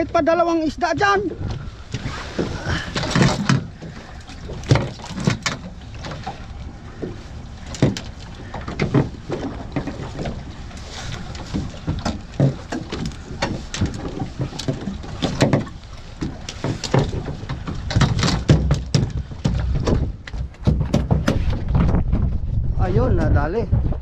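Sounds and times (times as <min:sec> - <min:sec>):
knocks and thumps on boat: 0:00.0 - 0:24.0
wind rumble on microphone: 0:00.0 - 0:24.0.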